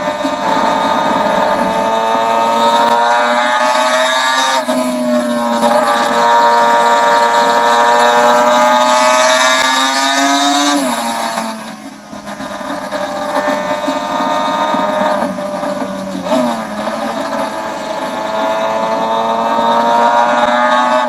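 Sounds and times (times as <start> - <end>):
motorcycle engine running hard: 0.0 - 21.0.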